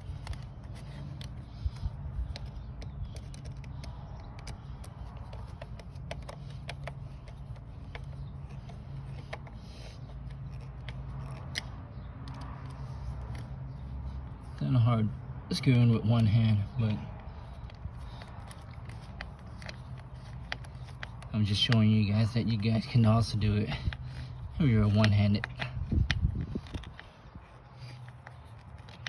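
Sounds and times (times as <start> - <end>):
clicks and scrapes of screwdriver: 0.0 - 14.6, 16.9 - 29.0
steady low hum: 0.0 - 29.0.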